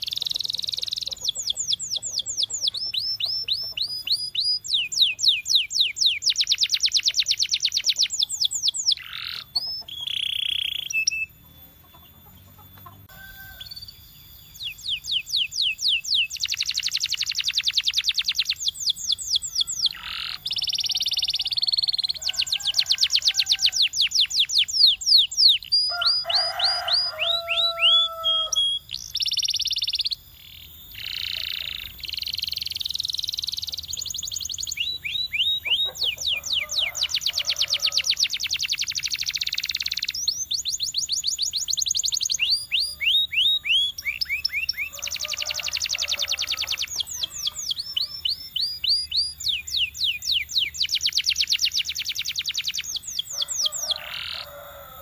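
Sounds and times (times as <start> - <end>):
canary singing fast trills: 0.0 - 55.0.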